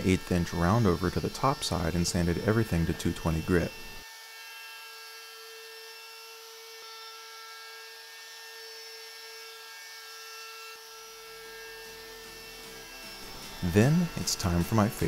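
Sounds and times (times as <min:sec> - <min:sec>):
router whining: 0:00.0 - 0:15.0.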